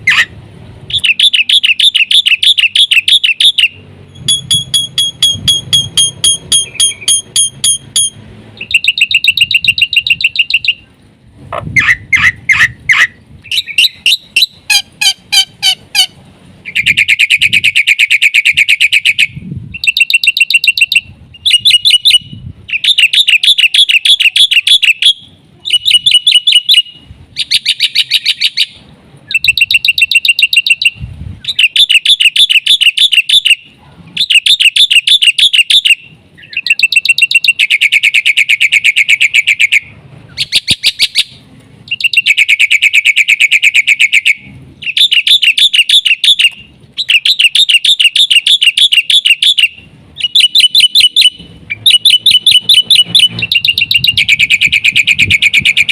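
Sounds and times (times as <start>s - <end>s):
bird singing rapid chirps: 0.9s - 10.8s, 11.8s - 33.6s, 34.2s - 55.9s.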